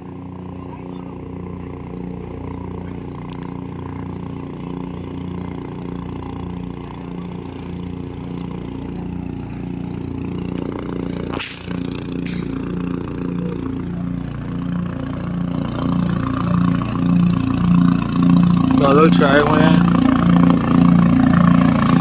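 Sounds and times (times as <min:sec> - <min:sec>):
helicopter rotor throbbing: 0:00.0 - 0:22.0.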